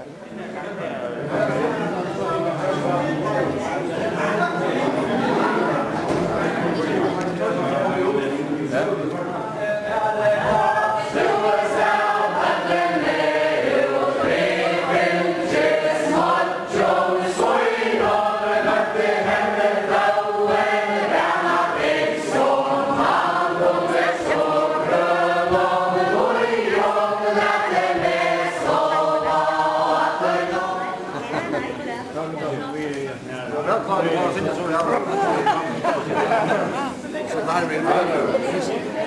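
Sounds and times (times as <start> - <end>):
many voices singing unaccompanied: 1.3 - 32.6, 35.3 - 39.0.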